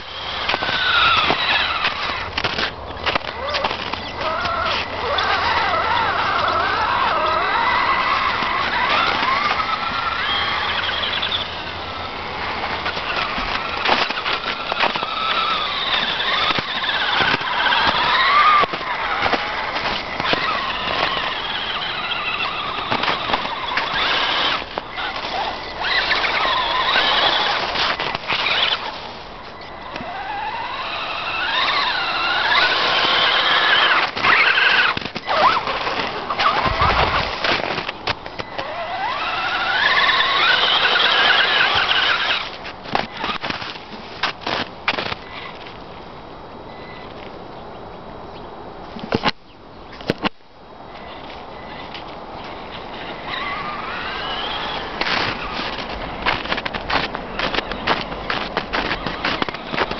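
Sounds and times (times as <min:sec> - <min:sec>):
electric motor and gears whining: 0:00.0 - 0:45.7, 0:52.4 - 0:59.9.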